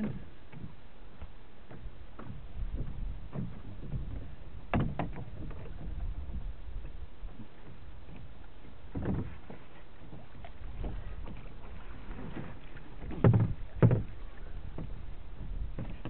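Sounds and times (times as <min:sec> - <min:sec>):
waves lapping against boat hull: 0:00.0 - 0:16.0.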